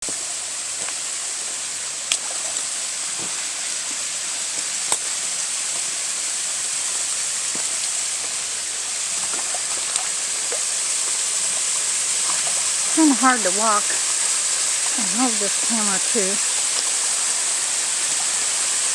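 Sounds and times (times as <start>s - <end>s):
rushing water from waterfall: 0.0s - 18.9s.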